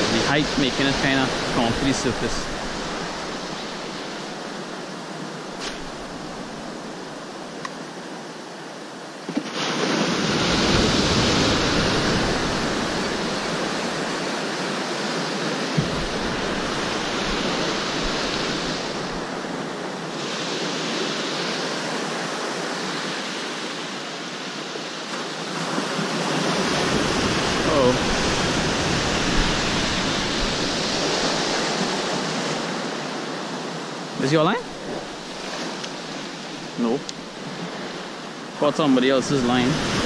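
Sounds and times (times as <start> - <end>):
ocean surf washing: 0.0 - 40.0.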